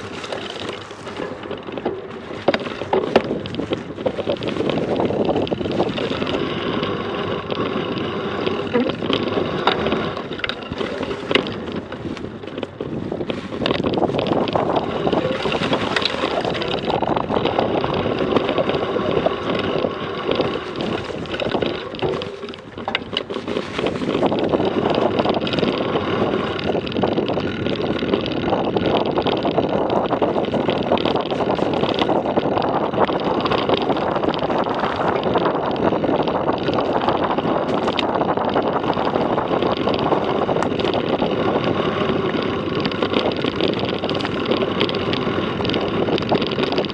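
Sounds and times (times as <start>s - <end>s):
rumble of off-road ride: 0.0s - 46.9s
wind buffeting microphone: 0.0s - 46.9s.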